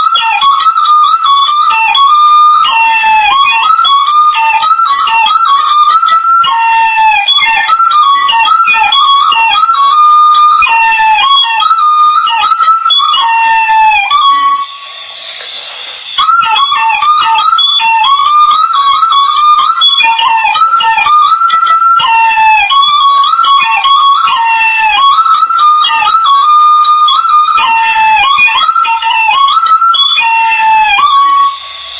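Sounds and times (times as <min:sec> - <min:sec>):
bamboo pipe melody: 0:00.0 - 0:31.9.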